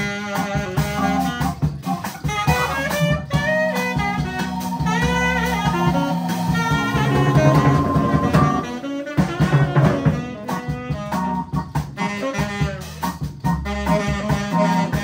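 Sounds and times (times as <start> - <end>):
jazz band playing: 0.0 - 15.0.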